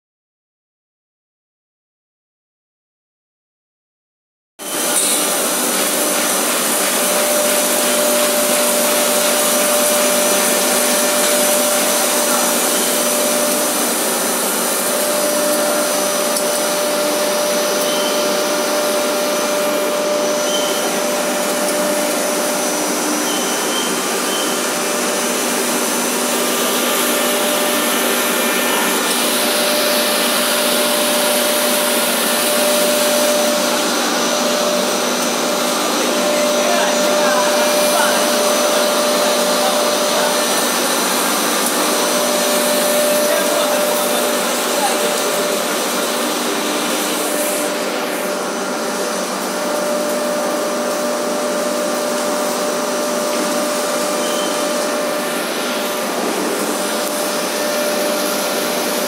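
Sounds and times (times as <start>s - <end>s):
machine whirring and hissing: 4.6s - 59.0s.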